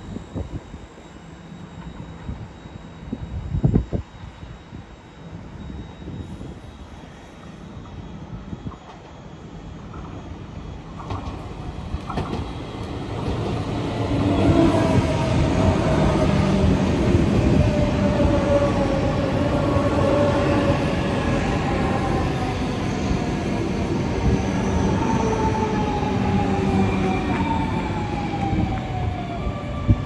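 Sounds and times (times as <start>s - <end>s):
train rumbling: 5.8s - 30.0s.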